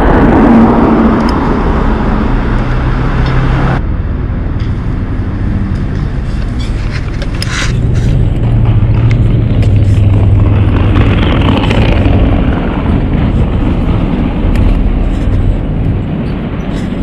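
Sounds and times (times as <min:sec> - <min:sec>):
street traffic: 0:00.0 - 0:17.0
wind rumbling on microphone: 0:00.0 - 0:17.0.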